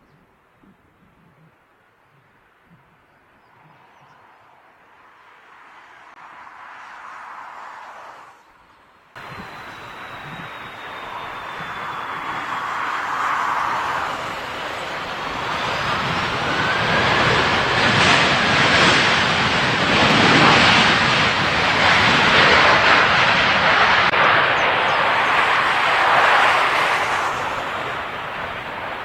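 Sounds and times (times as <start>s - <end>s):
jet airliner passing overhead: 3.7s - 29.0s
jet engine whine: 5.1s - 29.0s.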